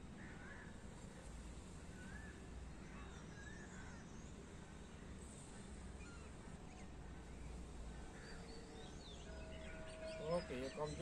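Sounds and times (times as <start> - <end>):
background hum and hiss: 0.0 - 11.0
faint bird chirps: 1.8 - 11.0.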